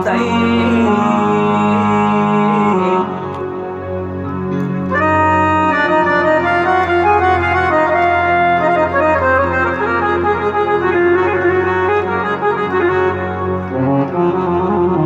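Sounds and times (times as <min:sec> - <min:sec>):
electronic keyboard organ chords: 0:00.0 - 0:15.0.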